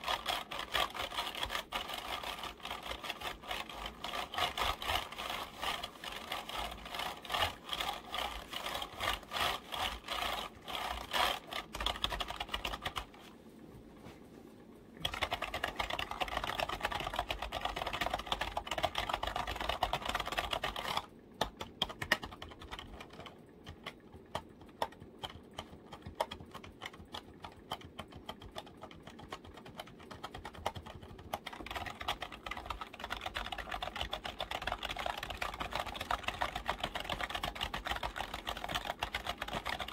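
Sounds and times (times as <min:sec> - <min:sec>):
computer keyboard tapping: 0:00.0 - 0:13.2, 0:15.0 - 0:39.9.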